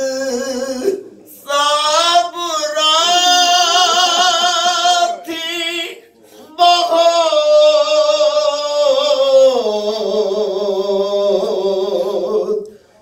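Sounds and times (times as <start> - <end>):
man chanting into a microphone: 0.0 - 12.8.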